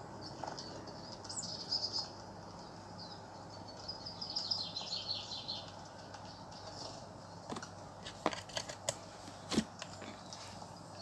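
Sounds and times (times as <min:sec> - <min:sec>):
birds chirping through small speaker: 0:00.0 - 0:08.0, 0:10.1 - 0:11.0.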